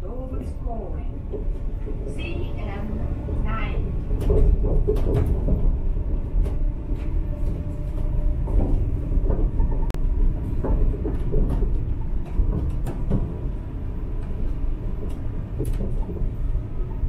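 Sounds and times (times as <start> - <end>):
monorail car rumbling on track: 0.0 - 17.0.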